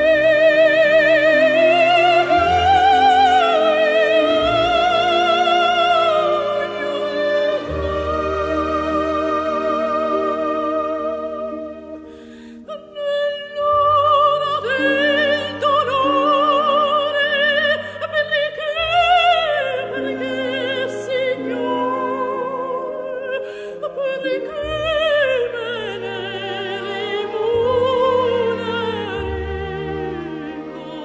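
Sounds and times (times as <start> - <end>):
instrumental accompaniment: 0.0 - 31.0
operatic singing with vibrato: 0.0 - 31.0.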